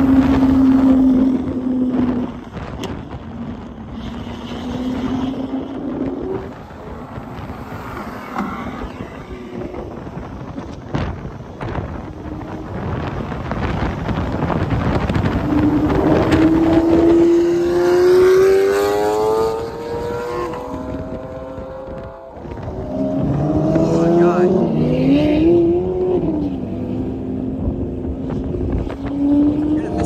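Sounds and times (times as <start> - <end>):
engine accelerating hard: 0.0 - 30.0
road noise: 0.0 - 30.0
supercar engines: 0.0 - 30.0.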